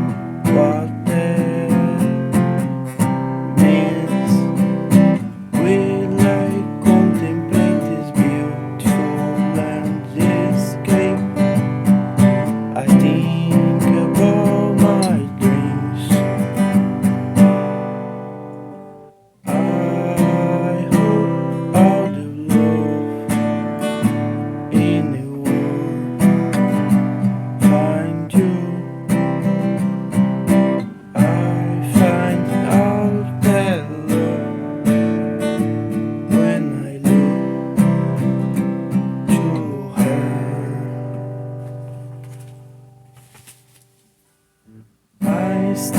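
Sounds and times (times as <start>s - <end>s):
acoustic guitar strumming: 0.0s - 45.9s.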